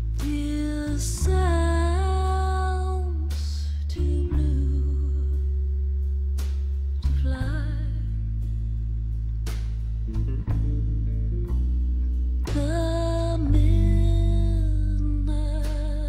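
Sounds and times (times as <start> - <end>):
bending lead notes: 0.0 - 16.0
low bass: 0.0 - 16.0.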